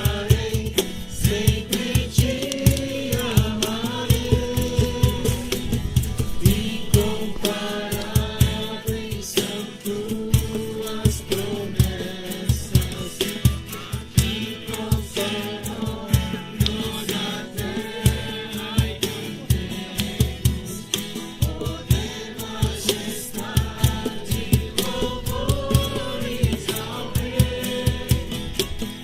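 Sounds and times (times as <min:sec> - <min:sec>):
group singing a worship song: 0:00.0 - 0:29.0
steady regular beat: 0:00.0 - 0:29.0.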